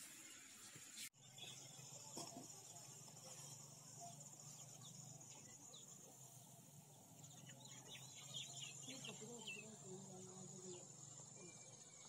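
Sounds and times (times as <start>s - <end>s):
high insect drone: 1.2s - 12.0s.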